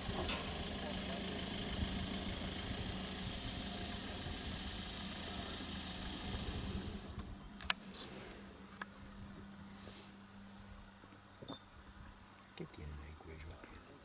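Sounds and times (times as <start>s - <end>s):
vehicle engine idling: 0.0s - 11.4s.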